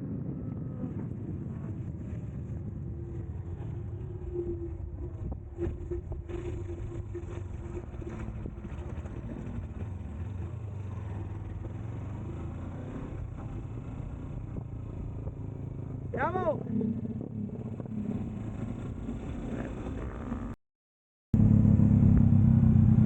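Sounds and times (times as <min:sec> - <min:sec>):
wind and road noise: 0:00.0 - 0:20.6, 0:21.4 - 0:23.0
motorcycle engine at high revs: 0:00.6 - 0:20.6, 0:21.4 - 0:23.0.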